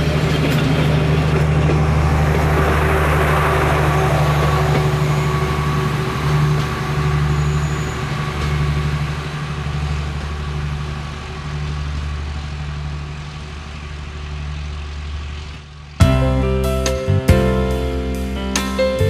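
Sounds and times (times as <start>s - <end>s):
low diesel engine hum: 0.0s - 19.0s
train coaches rumbling past: 0.0s - 19.0s.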